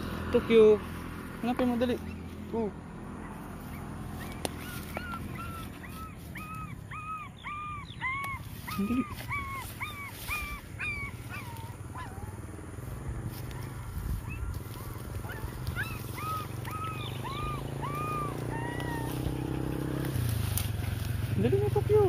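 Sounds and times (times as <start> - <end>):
puppies whimpering: 3.1 - 12.6, 13.5 - 22.0.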